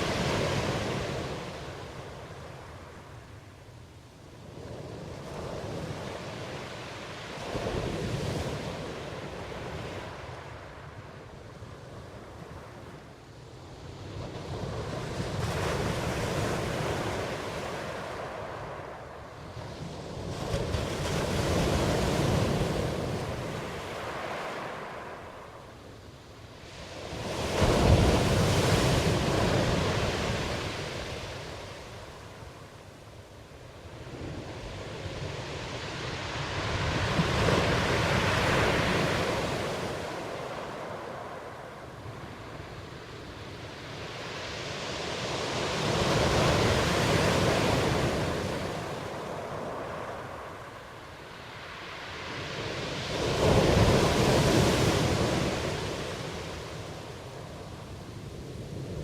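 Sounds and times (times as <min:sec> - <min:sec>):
ocean waves breaking: 0:00.0 - 0:03.4, 0:13.8 - 0:59.0.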